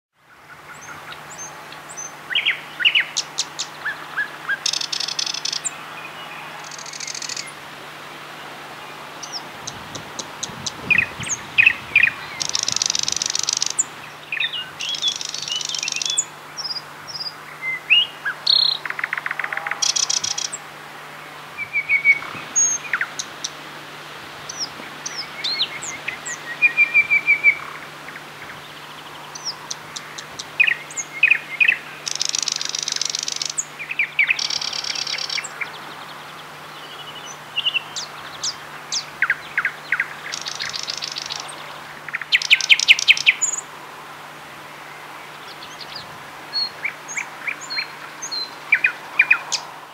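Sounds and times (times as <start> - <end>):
nightingale singing: 0.3 - 7.6, 8.8 - 20.6, 21.6 - 23.6, 24.4 - 43.7, 44.8 - 49.9.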